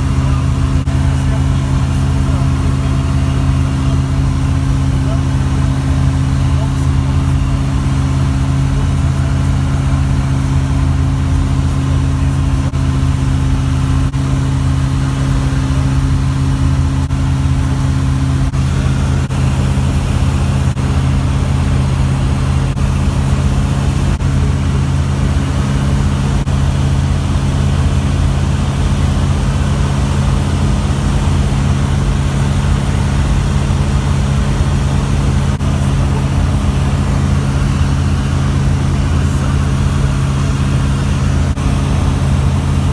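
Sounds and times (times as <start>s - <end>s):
light aircraft engine drone: 0.0s - 42.9s.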